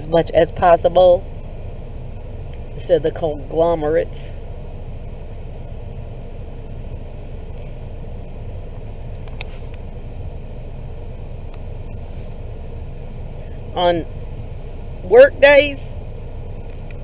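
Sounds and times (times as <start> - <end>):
car engine rumble inside cabin: 0.0 - 17.0.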